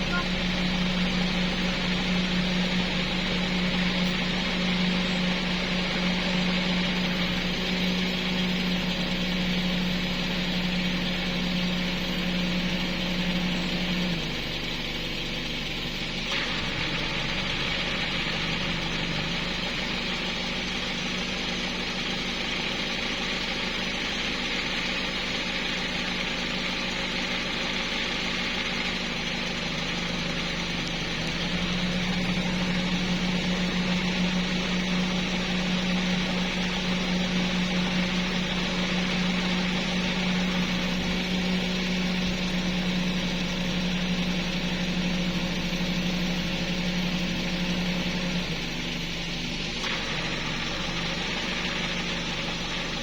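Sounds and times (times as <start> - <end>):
engine humming steadily: 0.0 - 53.0.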